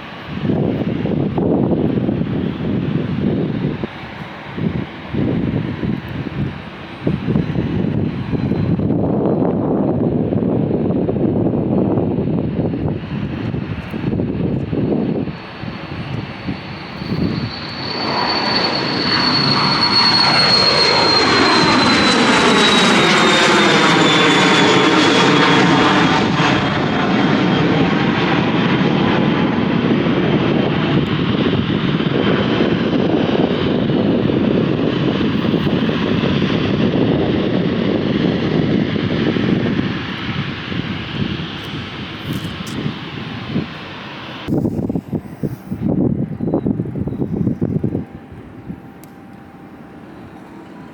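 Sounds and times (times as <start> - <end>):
airliner engines passing: 0.0 - 50.9
high whine gliding down: 0.0 - 50.9.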